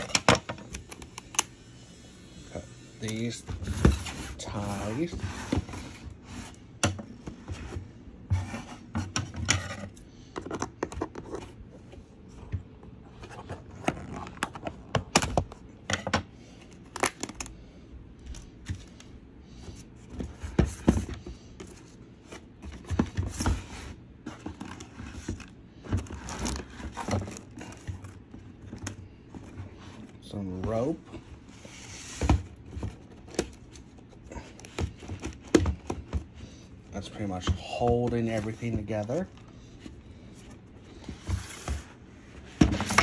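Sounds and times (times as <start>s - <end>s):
packaging rustling and scraping: 3.0s - 6.7s, 7.3s - 15.4s, 19.8s - 43.0s.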